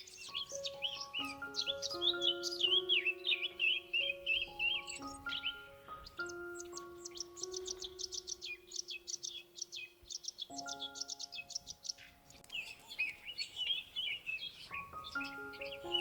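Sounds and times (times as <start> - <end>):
small birds chirping: 0.0 - 16.0
soft background music: 0.0 - 16.0.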